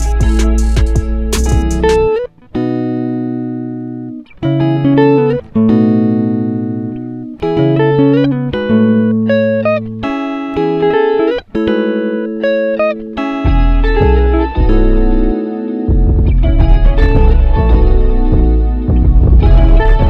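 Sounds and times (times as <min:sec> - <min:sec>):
plucked-string melody: 0:00.0 - 0:20.0.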